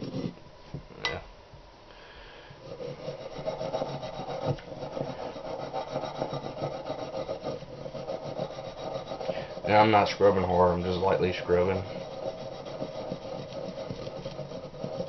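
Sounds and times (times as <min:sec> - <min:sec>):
wire brush scrubbing metal: 0:02.7 - 0:15.0.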